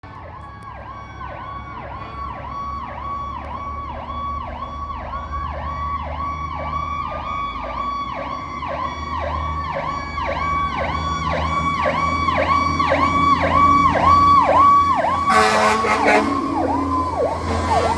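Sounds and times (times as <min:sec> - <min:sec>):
low rumble of truck engines: 0:00.0 - 0:17.9
wailing siren: 0:00.0 - 0:17.9
fast yelp siren: 0:00.3 - 0:17.9.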